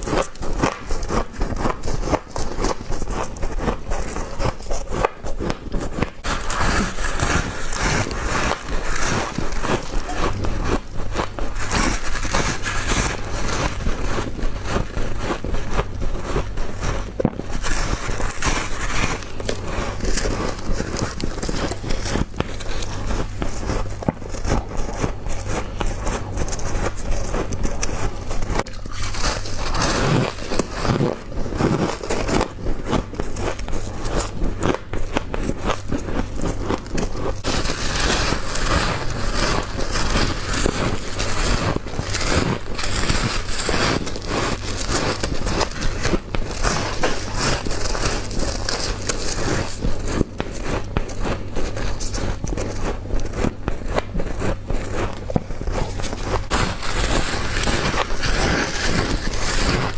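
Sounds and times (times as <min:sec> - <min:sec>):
ice crunching while chewed: 0:00.0 - 0:59.9
steady low hum: 0:00.0 - 0:59.9.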